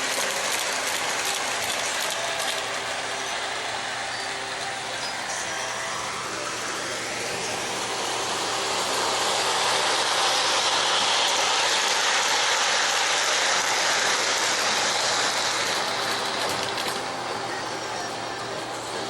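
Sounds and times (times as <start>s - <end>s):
model train rattling on track: 0.0s - 19.0s.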